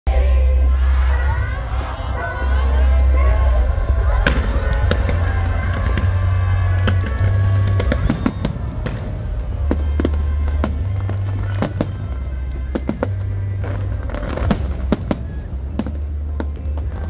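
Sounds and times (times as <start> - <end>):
loud music with heavy bass: 0.1 - 17.0.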